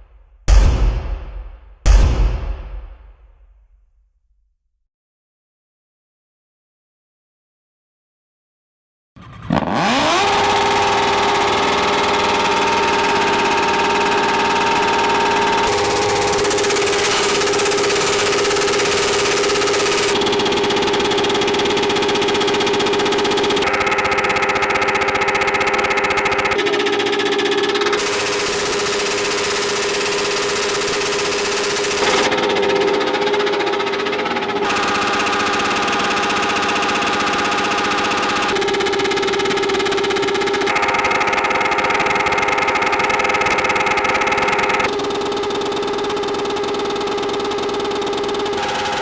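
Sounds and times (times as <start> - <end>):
motorcycle engine revving up: 9.2 - 49.0.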